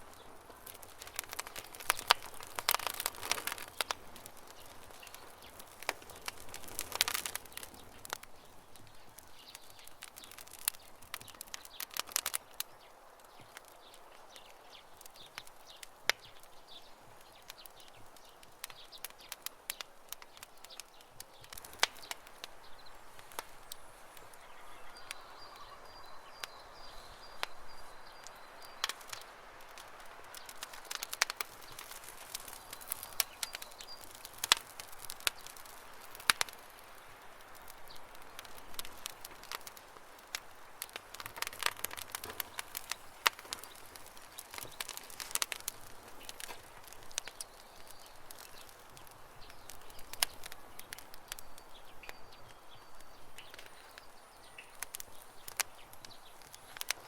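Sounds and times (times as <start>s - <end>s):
birds chirping: 0.0s - 57.0s
campfire crackling: 0.0s - 57.0s.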